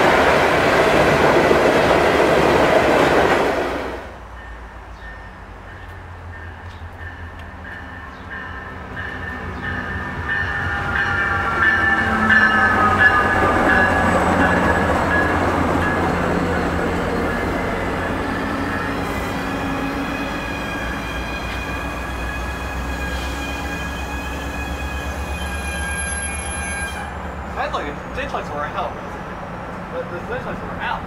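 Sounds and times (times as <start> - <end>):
diesel locomotive passing: 0.0 - 31.0
train coaches rumbling: 0.0 - 31.0.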